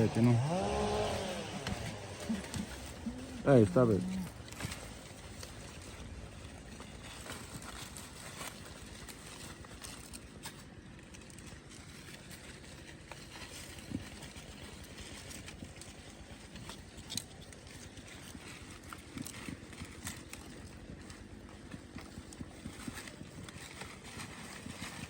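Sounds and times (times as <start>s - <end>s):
leaves rustling: 0.0s - 25.0s.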